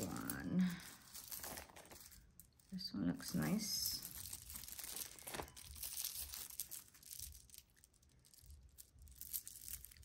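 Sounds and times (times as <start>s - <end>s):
jewelry clicking and rustling: 0.0s - 10.0s.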